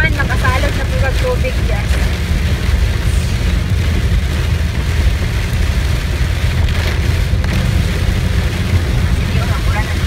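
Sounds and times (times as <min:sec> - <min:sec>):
car engine and tyres rumbling: 0:00.0 - 0:10.0
heavy rain on windshield: 0:00.0 - 0:10.0.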